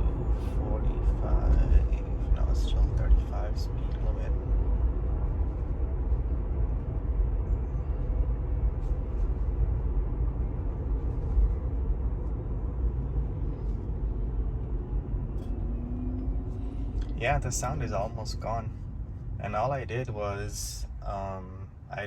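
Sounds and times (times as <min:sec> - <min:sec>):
road and tyre rumble in car: 0:00.0 - 0:22.0.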